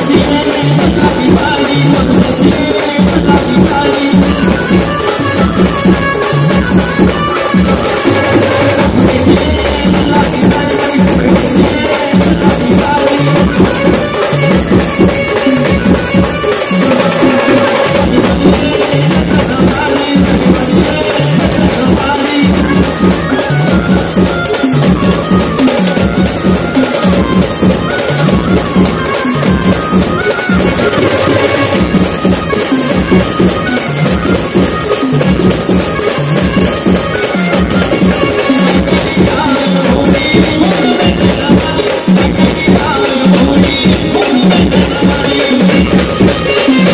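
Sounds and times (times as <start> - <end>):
fast heavy drumming: 0.0 - 46.9
keyboard melody: 0.0 - 46.9
loud live band music: 0.0 - 46.9.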